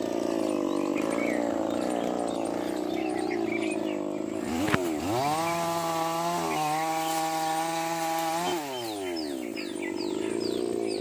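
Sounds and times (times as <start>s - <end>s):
birds chirping: 0.0s - 11.0s
chainsaw revving: 0.0s - 11.0s.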